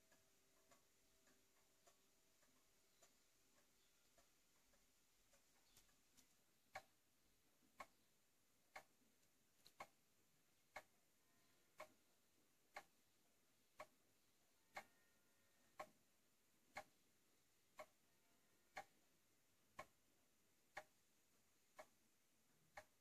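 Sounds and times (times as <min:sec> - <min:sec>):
pendulum clock ticking: 0:00.0 - 0:23.0.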